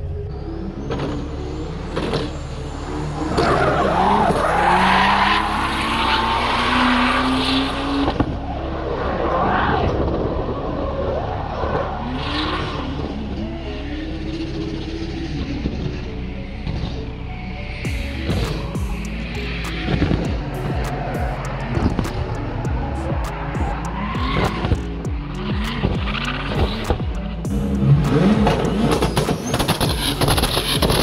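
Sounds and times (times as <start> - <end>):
car engine revving: 0.8 - 17.0, 17.7 - 31.0.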